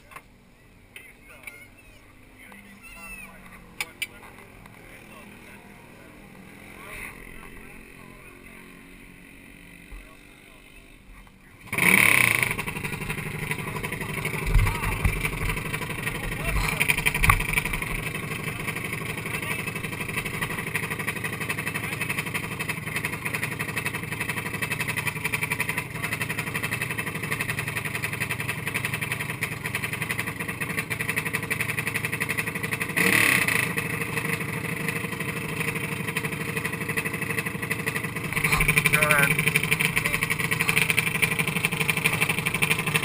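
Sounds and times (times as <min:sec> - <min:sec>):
kart engine idling: 0:00.0 - 0:43.0.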